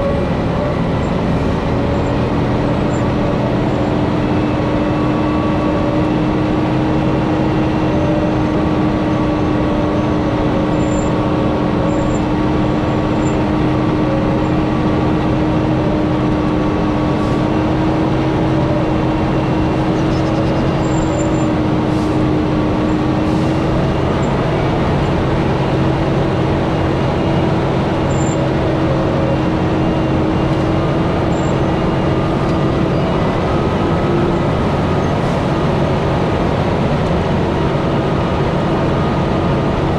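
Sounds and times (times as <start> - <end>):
heavy road noise: 0.0 - 39.9
truck engine drone: 0.0 - 39.9.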